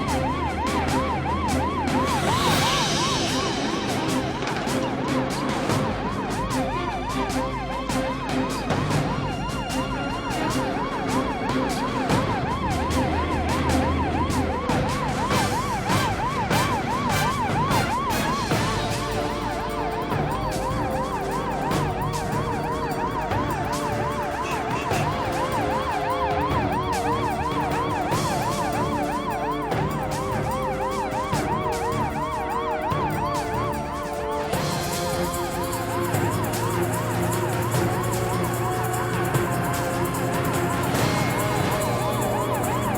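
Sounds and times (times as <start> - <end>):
police siren yelping: 0.0 - 42.9
tense background music: 0.0 - 42.9.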